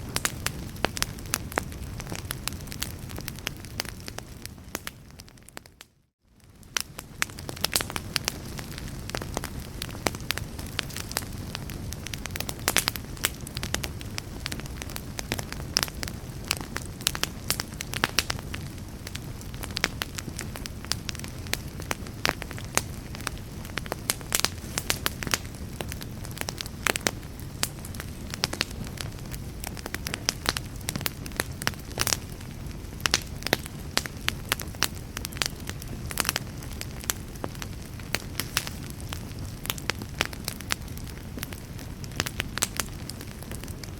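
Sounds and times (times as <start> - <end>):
fire popping and snapping: 0.0 - 43.9
low rumble of burning: 0.0 - 43.9.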